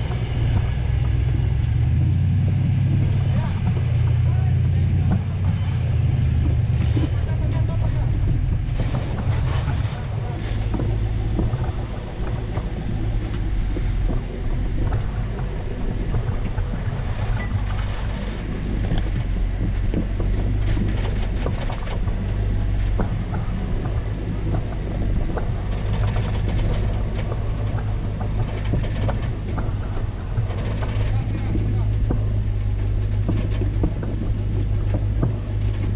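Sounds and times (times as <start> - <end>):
buggy engine running: 0.0 - 35.9
ticks and knocks: 0.0 - 35.9.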